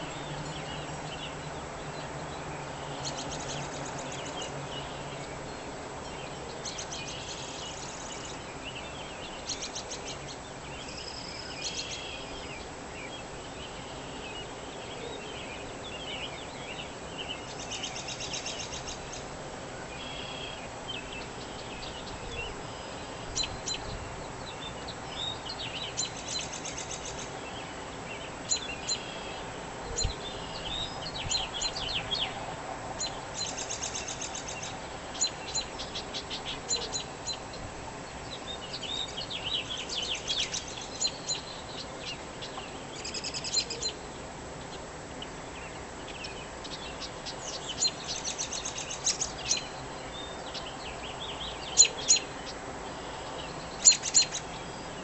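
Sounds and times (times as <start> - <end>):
faint background noise: 0.0 - 55.0
songbirds chirping and trilling: 0.0 - 55.0.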